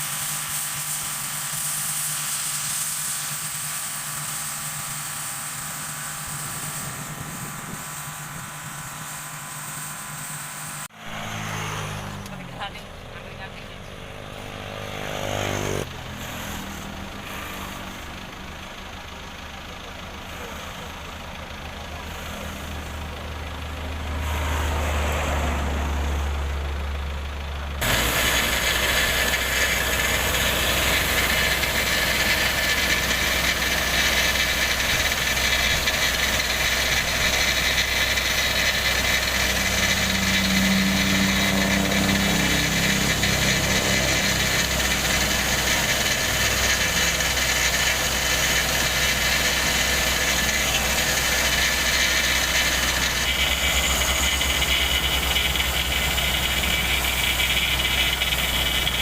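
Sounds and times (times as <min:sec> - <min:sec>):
heavy machinery engines running: 0:00.0 - 0:59.0
loud hissing engine: 0:00.0 - 0:59.0.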